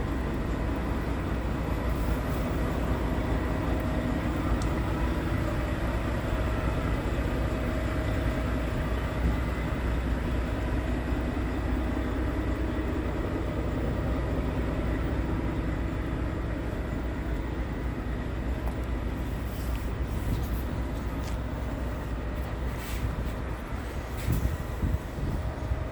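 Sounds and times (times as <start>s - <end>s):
truck diesel engine running: 0.0s - 25.9s.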